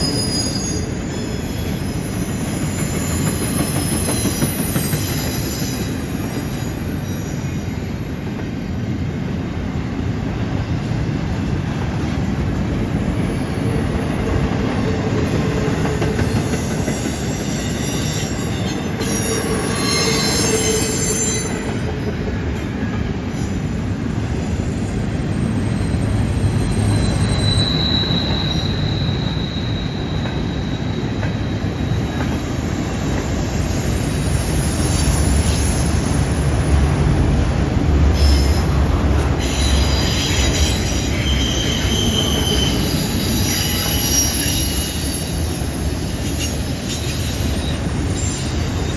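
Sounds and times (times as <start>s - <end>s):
freight train wheels rumbling: 0.0s - 48.9s
train wheels squealing: 0.0s - 48.9s.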